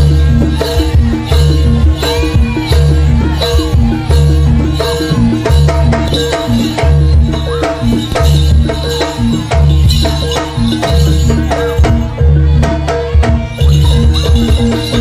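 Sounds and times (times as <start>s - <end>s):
deep booming drum beats: 0.0s - 15.0s
hand drums: 0.0s - 15.0s.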